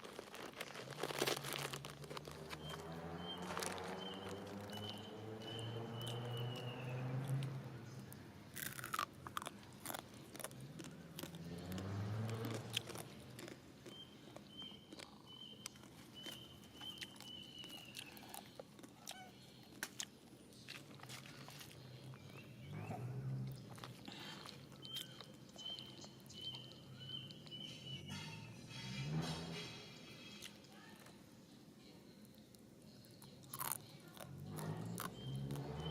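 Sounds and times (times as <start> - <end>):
monkey chewing and crunching food: 0.0 - 28.2, 32.2 - 35.9.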